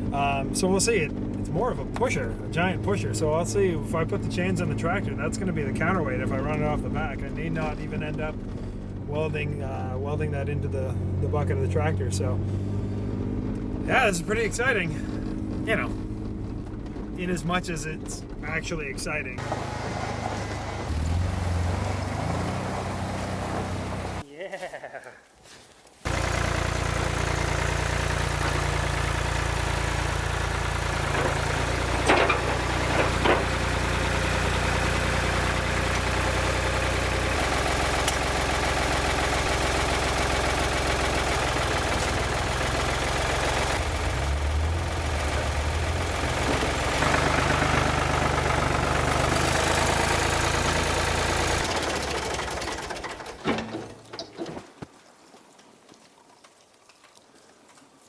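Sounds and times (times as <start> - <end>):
tractor engine running: 0.0 - 24.2, 26.0 - 54.8.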